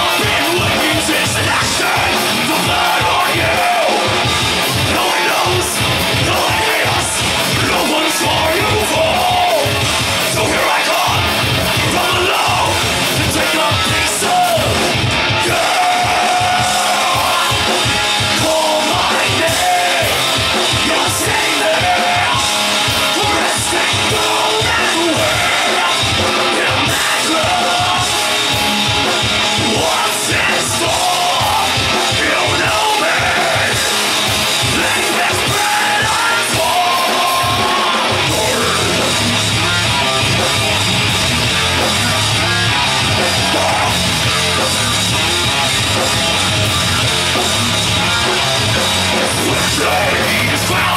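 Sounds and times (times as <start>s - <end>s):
bass guitar: 0.0s - 50.9s
electric guitar: 0.0s - 50.9s
fast drumming on drum kit: 0.0s - 50.9s
vocalists yelling and singing: 0.0s - 50.9s.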